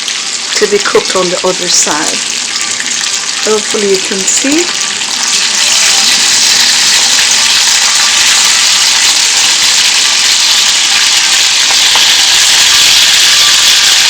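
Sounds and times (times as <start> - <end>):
prawns sizzling in hot oil: 0.0 - 14.0.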